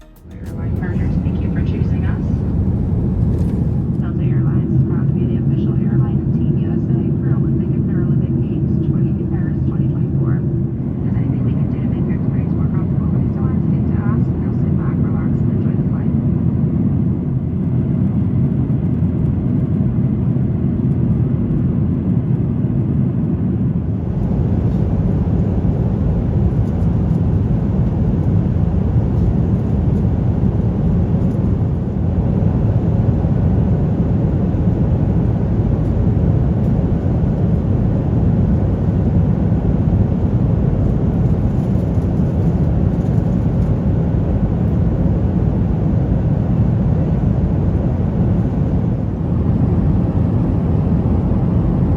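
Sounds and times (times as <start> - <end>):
airplane cabin noise in flight: 0.0 - 51.9.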